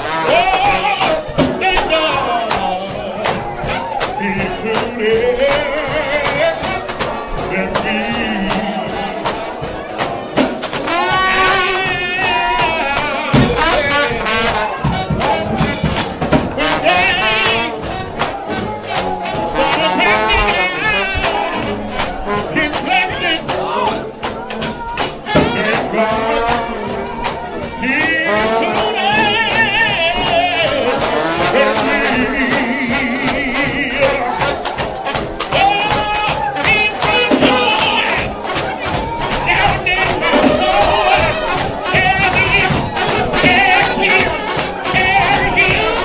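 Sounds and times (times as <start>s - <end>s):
drums and tambourine beat: 0.0s - 46.0s
trombones playing a hymn: 0.0s - 46.0s.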